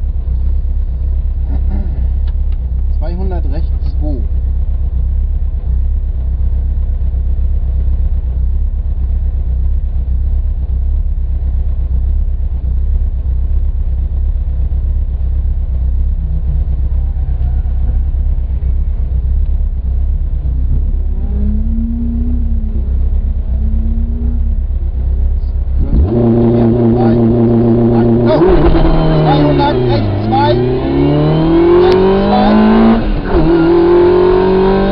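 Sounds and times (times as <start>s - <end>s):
rally car engine rumble: 0.0s - 34.9s.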